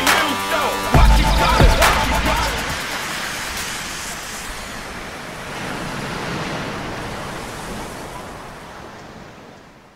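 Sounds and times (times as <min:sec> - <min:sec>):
ocean surf breaking: 0:00.0 - 0:09.9.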